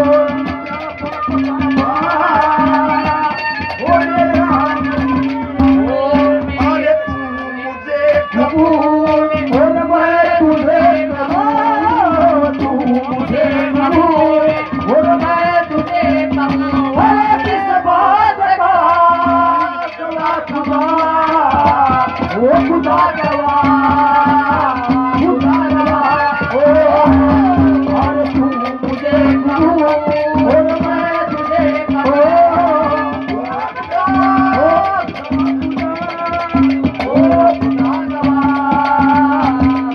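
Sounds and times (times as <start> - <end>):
fast hand-drum strokes: 0.0 - 39.9.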